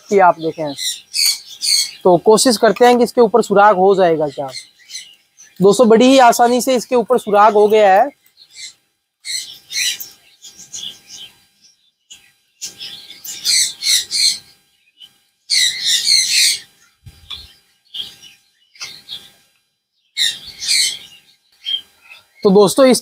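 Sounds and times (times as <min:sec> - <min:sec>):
caged birds chirping: 0:00.0 - 0:23.0.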